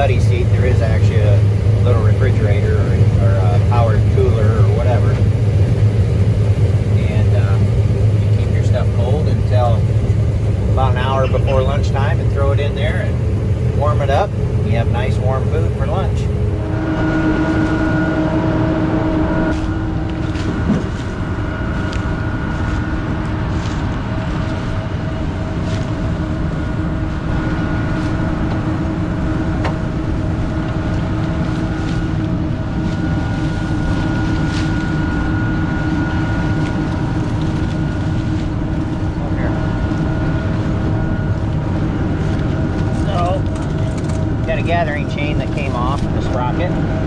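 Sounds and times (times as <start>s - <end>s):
combine harvester rumbling: 0.0s - 47.0s
whining drives and fans: 0.0s - 47.0s.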